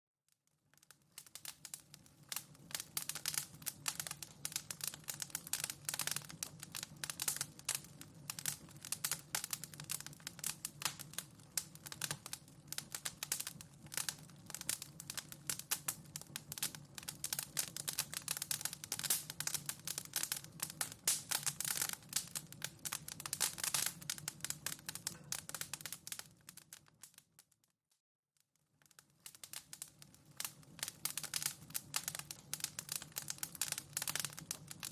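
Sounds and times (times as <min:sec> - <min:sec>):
wood fire crackling: 0:00.4 - 0:27.6, 0:28.7 - 0:34.9.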